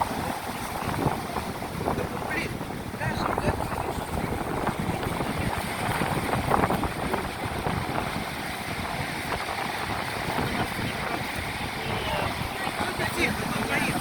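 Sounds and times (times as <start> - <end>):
sea waves: 0.0 - 14.0
wind buffeting microphone: 0.0 - 14.0.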